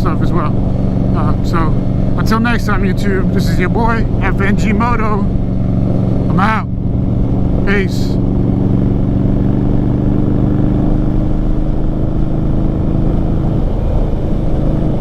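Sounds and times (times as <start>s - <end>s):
motorcycle engine running loud: 0.0s - 15.0s.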